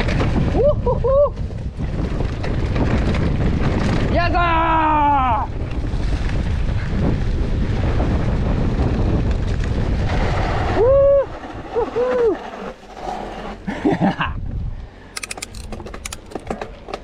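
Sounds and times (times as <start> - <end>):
wind rushing over microphone: 0.0 - 12.4, 14.0 - 16.6.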